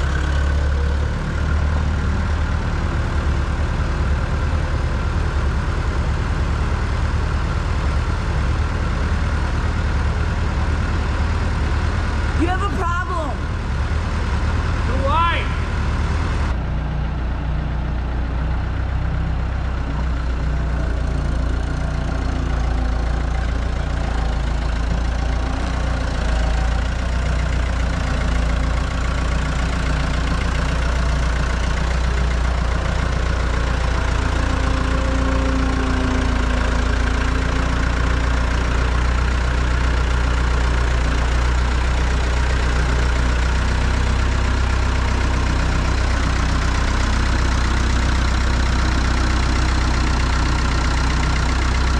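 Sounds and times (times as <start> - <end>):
loader engine running: 0.0 - 51.9.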